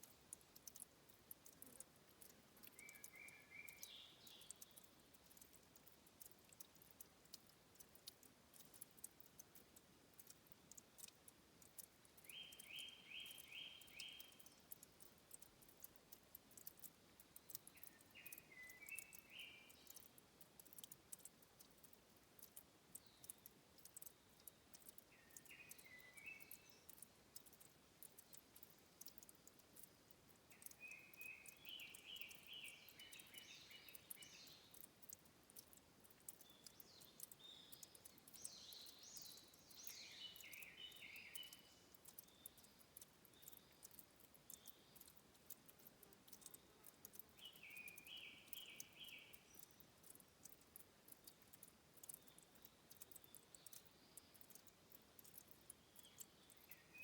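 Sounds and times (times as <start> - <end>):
small bird singing: 0.0 - 9.5, 10.2 - 57.0
spring water trickling: 0.0 - 57.0
water dripping: 0.0 - 57.0.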